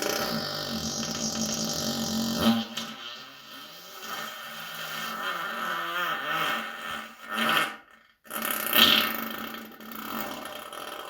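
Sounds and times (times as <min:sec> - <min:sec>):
person farting: 0:00.0 - 0:02.8, 0:05.0 - 0:11.0.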